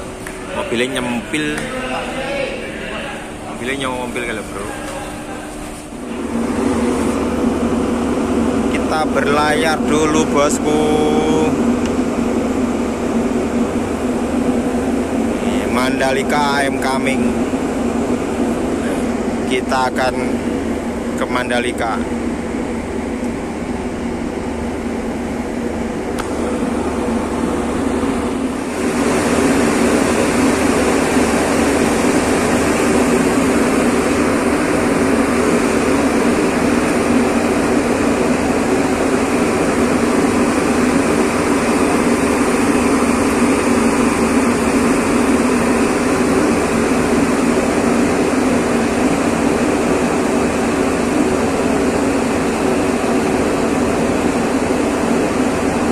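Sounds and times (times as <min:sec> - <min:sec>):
ship engines droning: 0:00.0 - 0:55.9.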